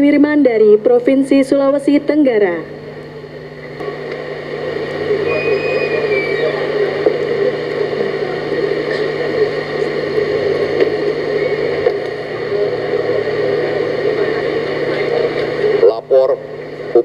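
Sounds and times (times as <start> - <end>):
whirring with low hum: 0.0 - 17.0.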